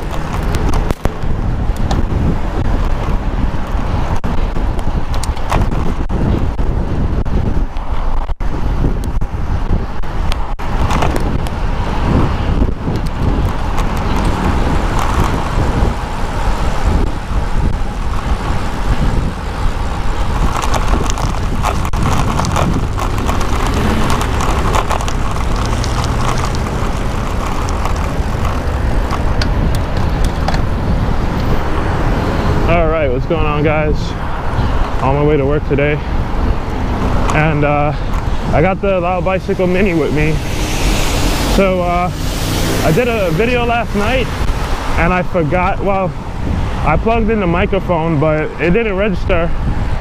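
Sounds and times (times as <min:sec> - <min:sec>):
vehicles going by: 0:00.0 - 0:50.0
wind rumble on microphone: 0:00.0 - 0:50.0.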